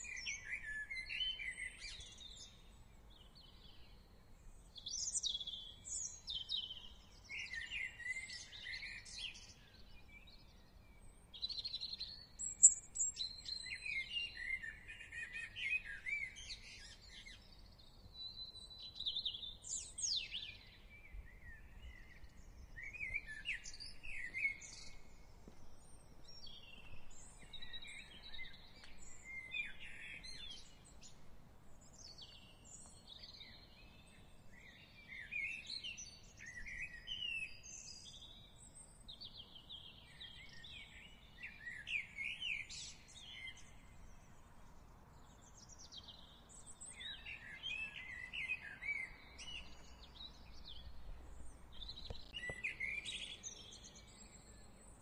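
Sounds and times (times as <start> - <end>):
faint low background noise: 0.0 - 55.0
songbirds chirping and warbling: 0.0 - 55.0.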